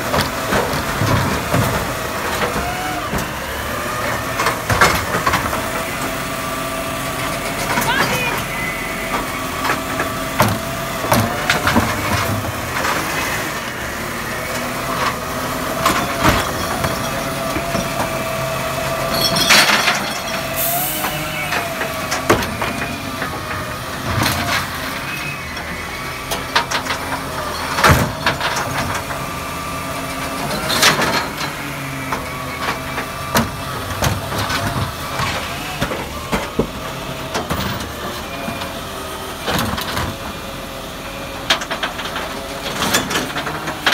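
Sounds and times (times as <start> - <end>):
bins banging against hopper: 0.0 - 40.7, 41.3 - 43.9
diesel engine running: 0.0 - 43.9
hydraulics whining: 0.0 - 43.9.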